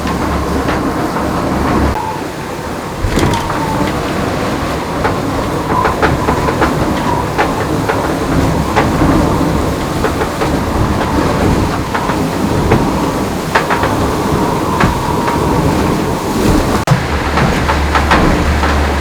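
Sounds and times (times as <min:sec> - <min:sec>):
hull rumbling and shaking: 0:00.0 - 0:19.0
knocks and rattles: 0:02.9 - 0:19.0.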